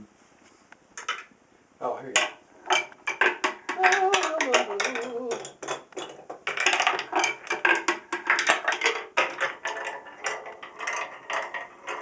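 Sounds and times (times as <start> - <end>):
marble rattling down wooden track: 1.0 - 1.3, 2.1 - 12.0.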